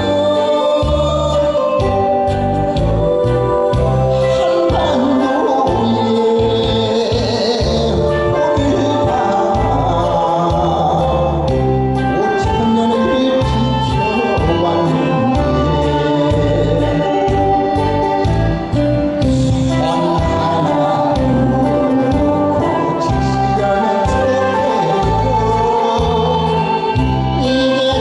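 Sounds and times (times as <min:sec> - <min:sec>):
keyboard chords and bass backing: 0:00.0 - 0:28.0
man singing into microphone: 0:00.0 - 0:28.0.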